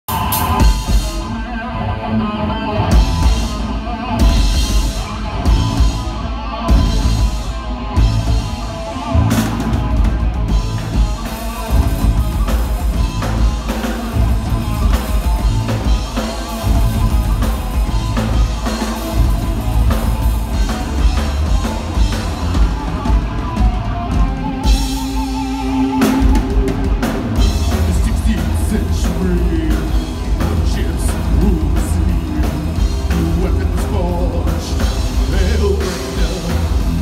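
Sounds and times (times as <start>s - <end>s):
heavy metal band playing: 0.0s - 37.0s.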